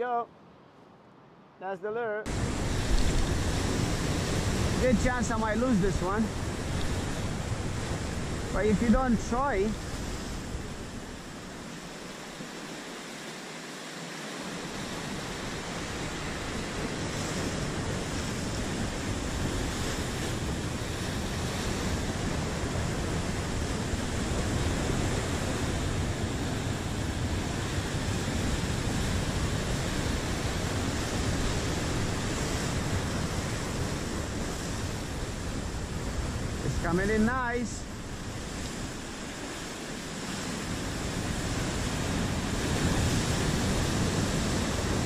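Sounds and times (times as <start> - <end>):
surf breaking over rocks: 2.3 - 45.0.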